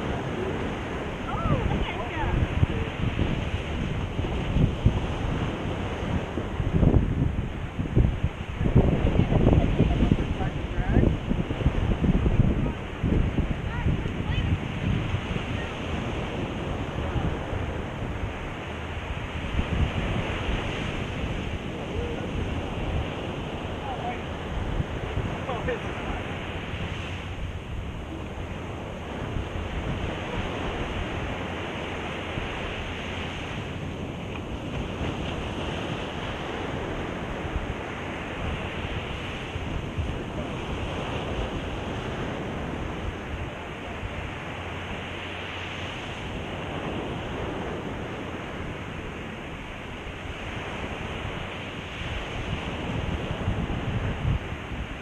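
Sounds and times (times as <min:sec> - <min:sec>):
surf washing up a beach: 0:00.0 - 0:55.0
wind buffeting microphone: 0:00.0 - 0:55.0.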